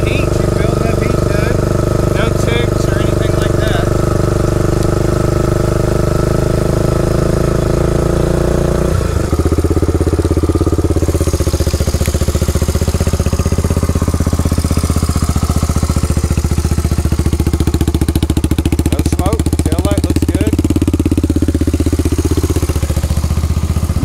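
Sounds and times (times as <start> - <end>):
four-stroke engine running and idling: 0.0 - 24.0.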